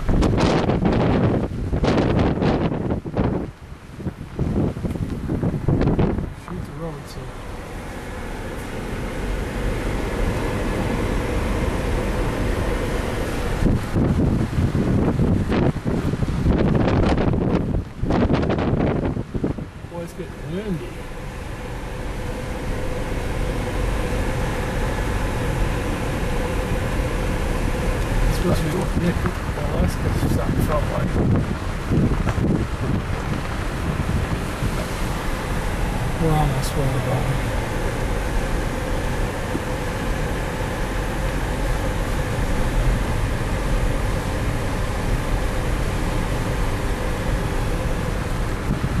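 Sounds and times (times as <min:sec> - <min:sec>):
car driving on dirt road: 0:00.0 - 0:49.0.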